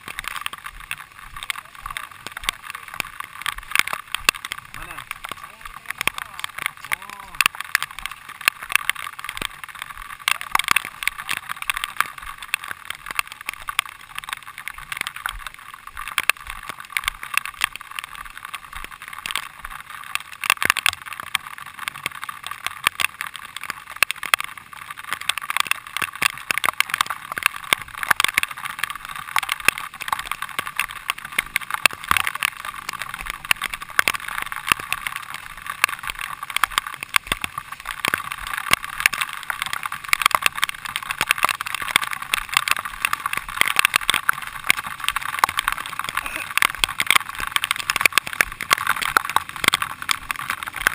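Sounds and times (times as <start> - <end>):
bicycle rattling on rough trail: 0.0 - 50.9.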